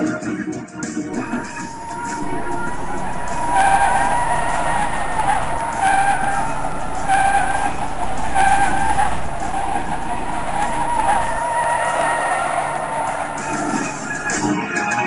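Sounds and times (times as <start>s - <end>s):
car tyres squealing: 1.2s - 14.5s.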